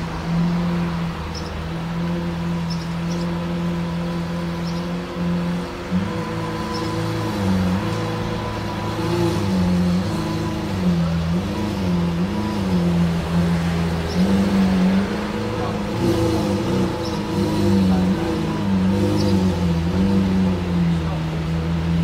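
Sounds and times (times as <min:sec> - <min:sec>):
sports car engine running low: 0:00.0 - 0:22.0.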